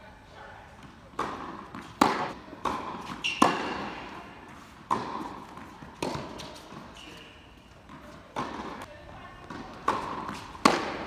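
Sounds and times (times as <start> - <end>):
tennis ball bouncing on court: 0.8 - 7.2, 7.8 - 11.0
tennis ball hit by rackets: 1.1 - 6.9, 7.9 - 11.0.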